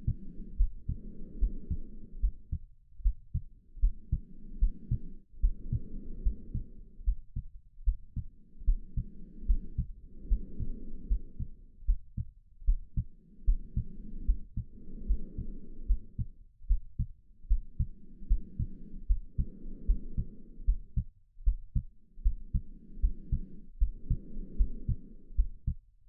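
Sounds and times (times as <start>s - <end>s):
heartbeat thumps: 0.0s - 25.9s
slow breathing: 0.0s - 25.9s.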